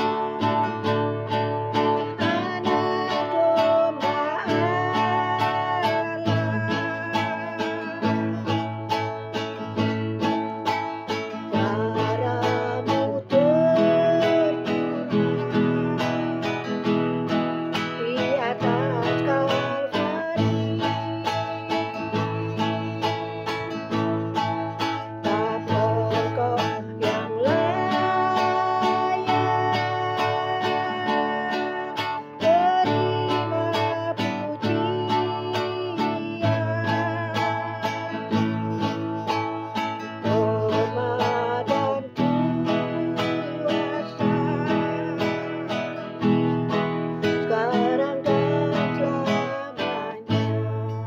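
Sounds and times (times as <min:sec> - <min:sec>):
strummed classical guitar: 0:00.0 - 0:51.0
woman singing: 0:00.0 - 0:51.0.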